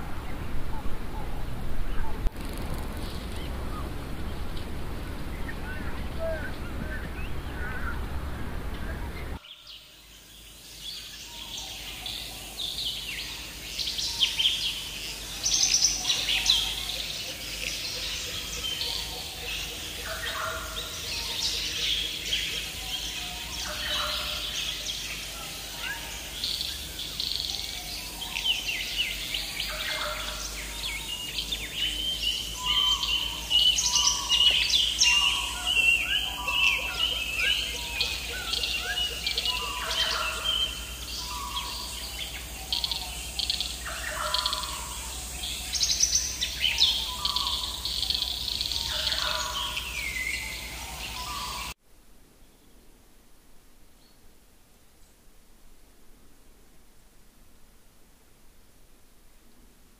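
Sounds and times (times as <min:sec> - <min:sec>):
songbirds singing and chirping: 0:00.0 - 0:51.8.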